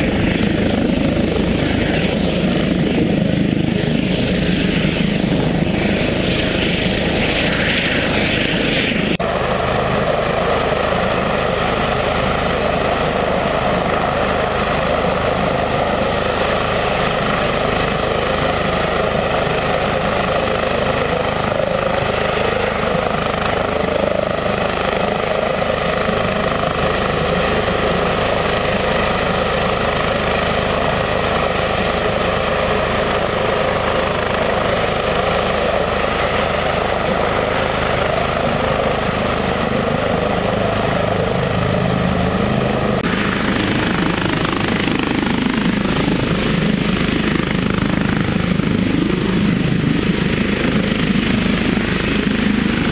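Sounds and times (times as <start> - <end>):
helicopter hovering: 0.0 - 52.9.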